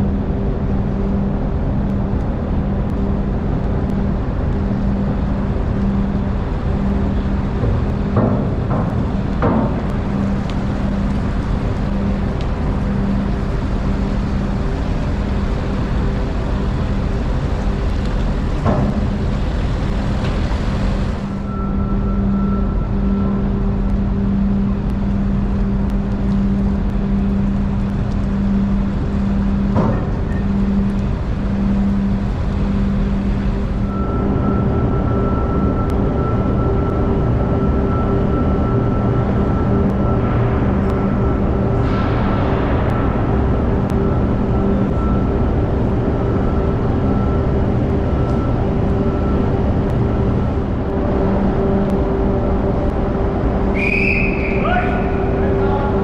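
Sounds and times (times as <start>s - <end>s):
high steady whine: 0.0s - 56.0s
vehicle engines humming: 0.0s - 56.0s.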